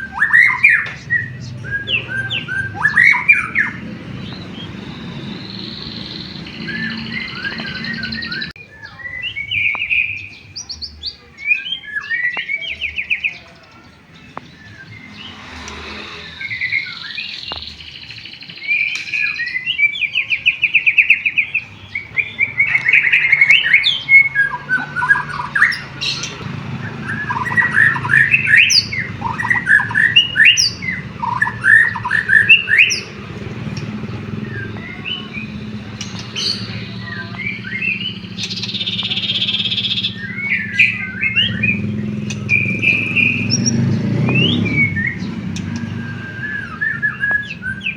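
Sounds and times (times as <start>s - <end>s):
songbird trills and whistles: 0.0s - 47.9s.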